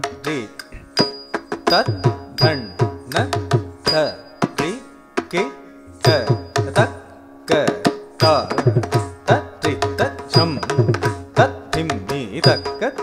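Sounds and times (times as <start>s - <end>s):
mridangam strokes: 0.0s - 13.0s.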